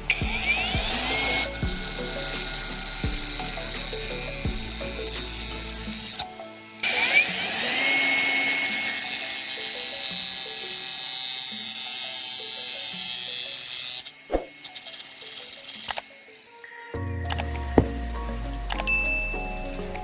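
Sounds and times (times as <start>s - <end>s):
background music: 0.0s - 20.0s
power tool motor whining: 0.0s - 20.0s.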